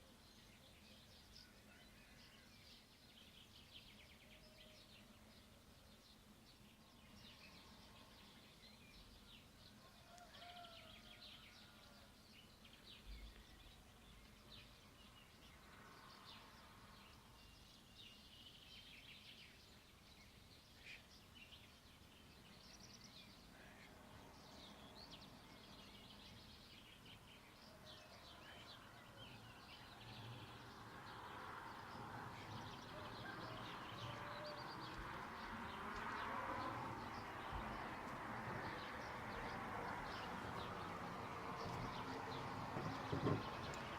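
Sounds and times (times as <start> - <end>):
faint songbirds chirping: 0.0 - 43.9.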